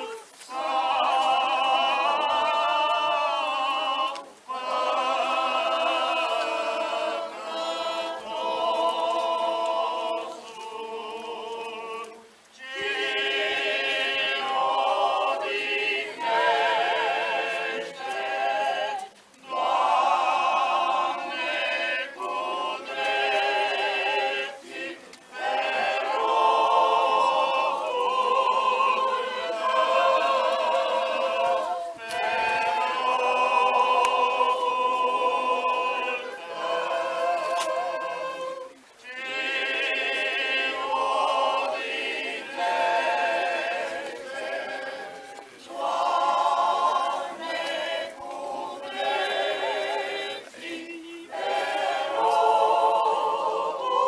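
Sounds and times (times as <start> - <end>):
men's choir chanting a cappella: 0.0 - 54.0.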